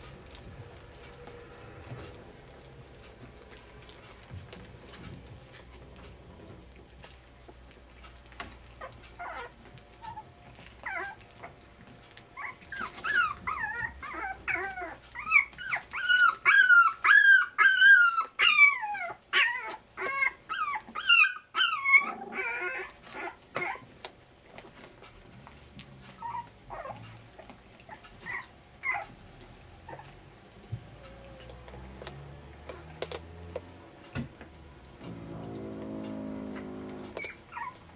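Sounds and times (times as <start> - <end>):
puppies whimpering and squealing: 0.0 - 33.2, 35.0 - 37.9.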